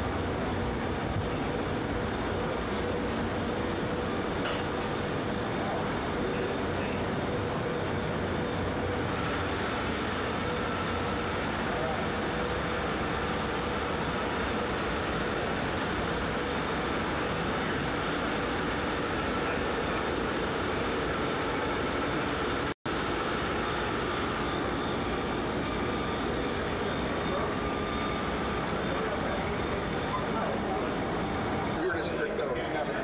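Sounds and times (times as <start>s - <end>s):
machine room hum: 0.0s - 33.0s.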